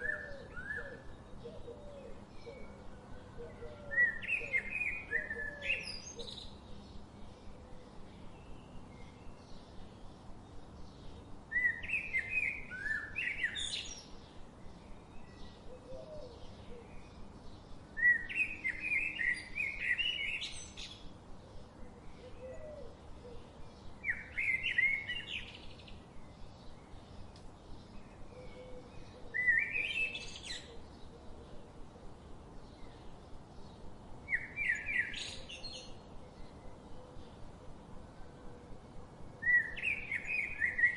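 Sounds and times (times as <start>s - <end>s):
bird warbling song: 0.0s - 31.8s, 32.6s - 37.8s, 39.4s - 40.9s.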